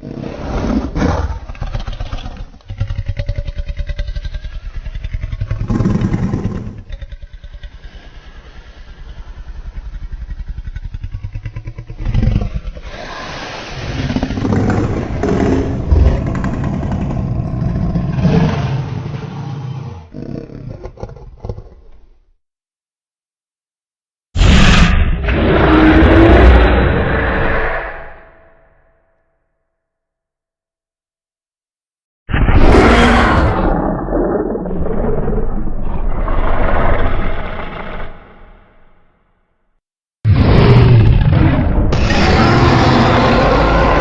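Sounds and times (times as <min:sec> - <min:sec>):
deep rattling creature growls: 0:00.0 - 0:22.3, 0:24.4 - 0:28.6, 0:32.3 - 0:39.2, 0:40.2 - 0:44.0.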